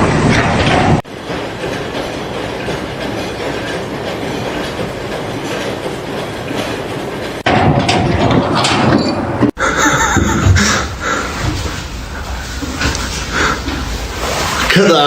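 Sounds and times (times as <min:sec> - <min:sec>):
mechanical rumble with clatter: 0:00.0 - 0:15.0.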